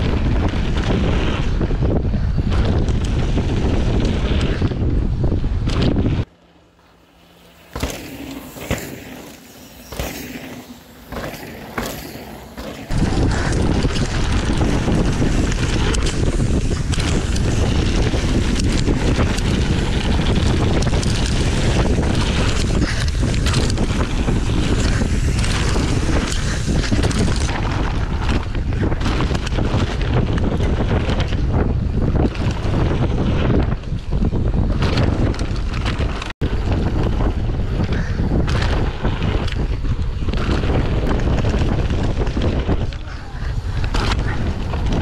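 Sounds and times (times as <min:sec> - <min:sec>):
wind buffeting microphone: 0:00.0 - 0:06.3, 0:07.3 - 0:45.0
bike rattling over bumps: 0:00.0 - 0:45.0
bike tyres on dirt trail: 0:00.0 - 0:45.0.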